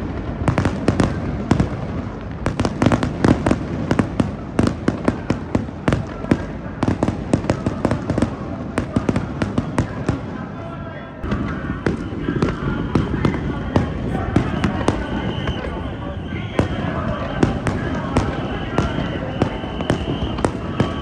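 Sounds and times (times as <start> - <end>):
fireworks cracking and popping: 0.0 - 10.6, 11.2 - 21.0.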